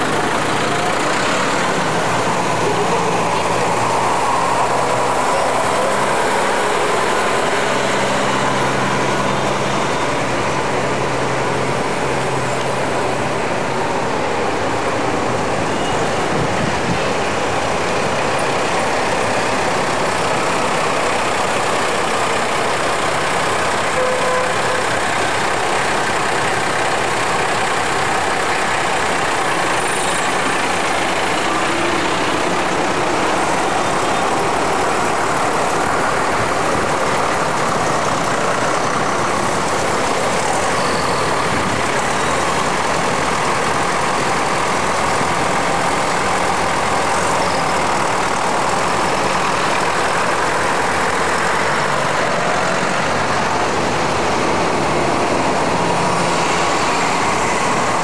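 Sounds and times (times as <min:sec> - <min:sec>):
tractor diesel engines driving past: 0:00.0 - 0:58.0.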